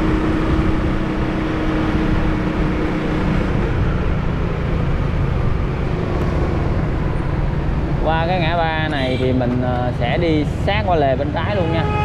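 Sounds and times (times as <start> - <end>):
wind noise: 0.0 - 10.8
road rumble: 0.0 - 12.0.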